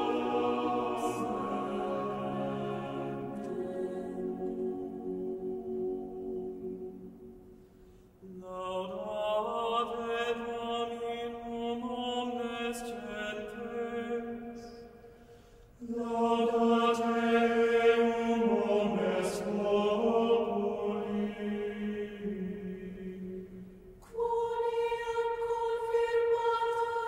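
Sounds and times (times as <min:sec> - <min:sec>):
chant-like choir music: 0:00.0 - 0:15.1, 0:15.7 - 0:27.0.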